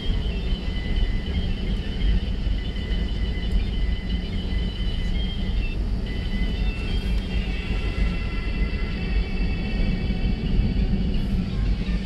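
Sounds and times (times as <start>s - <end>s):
jet engines whining: 0.0s - 12.0s
low cabin rumble: 0.0s - 12.0s.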